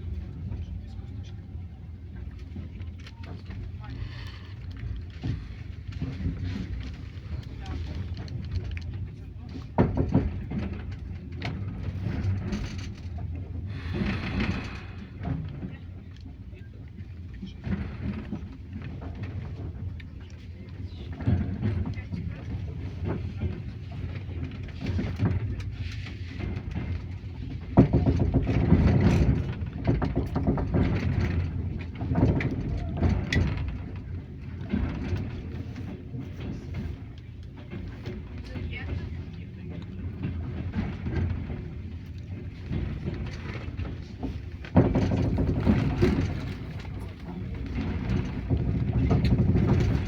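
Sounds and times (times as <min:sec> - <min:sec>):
train wheels rumbling on rails: 0:00.0 - 0:50.0
train wheels clattering: 0:03.2 - 0:16.5, 0:20.7 - 0:50.0.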